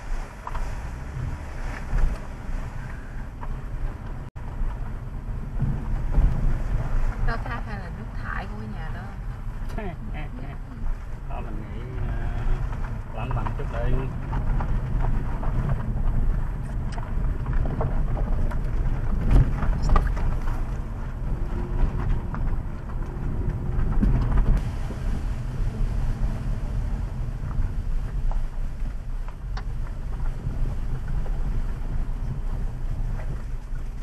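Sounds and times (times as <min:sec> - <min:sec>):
car road and wind rumble: 0:00.0 - 0:34.0.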